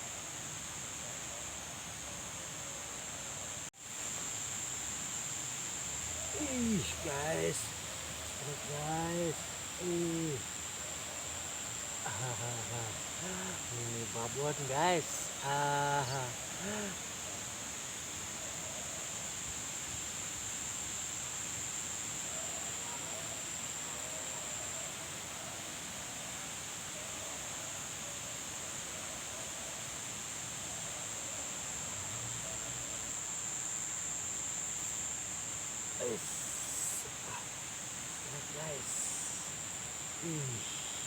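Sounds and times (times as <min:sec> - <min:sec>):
background hiss: 0:00.0 - 0:41.0
insects droning: 0:00.0 - 0:41.0.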